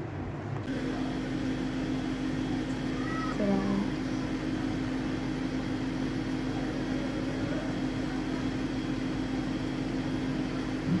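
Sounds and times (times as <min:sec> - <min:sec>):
machine hum: 0:00.6 - 0:11.0.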